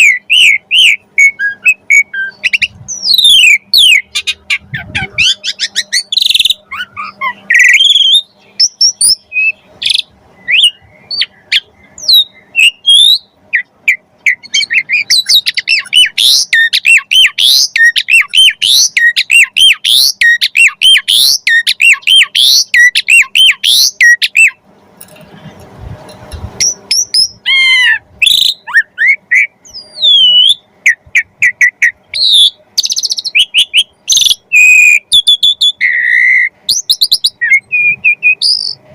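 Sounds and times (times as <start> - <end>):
starling singing: 0.0 - 24.6, 26.6 - 38.9.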